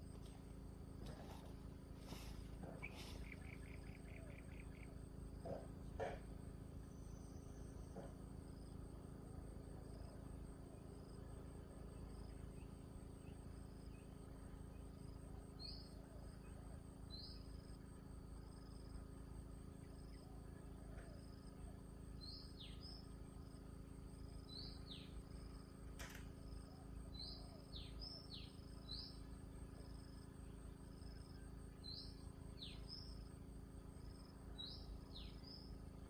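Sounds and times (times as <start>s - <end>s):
insect chirping: 0.0s - 36.0s
steady low hum: 0.0s - 36.0s.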